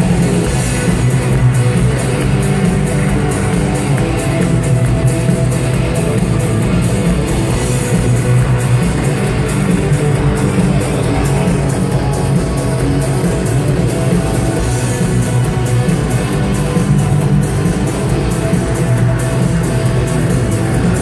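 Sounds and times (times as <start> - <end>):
loud live rock music: 0.0 - 21.0.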